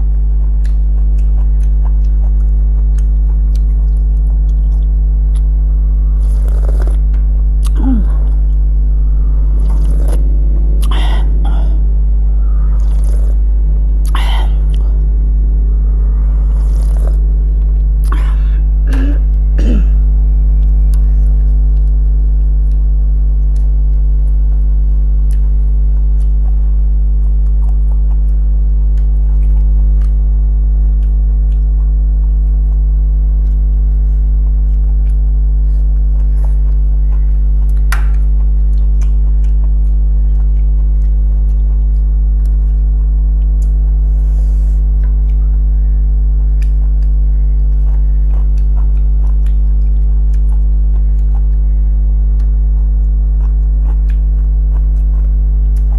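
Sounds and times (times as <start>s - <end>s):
chewing and lip smacks: 0.0s - 55.9s
loud steady low hum: 0.0s - 55.9s.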